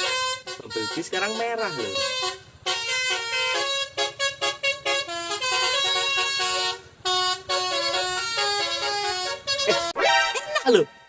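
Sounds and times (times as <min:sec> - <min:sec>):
multi-tone bus horn tune: 0:00.0 - 0:11.0.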